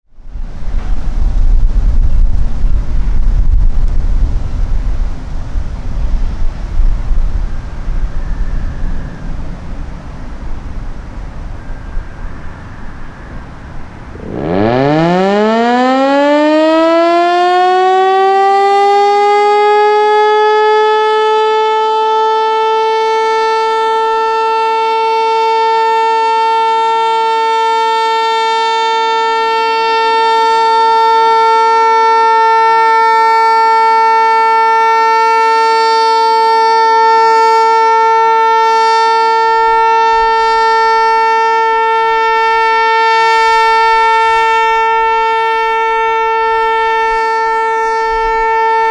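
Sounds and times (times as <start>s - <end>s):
tornado siren winding up: 7.1s - 48.9s.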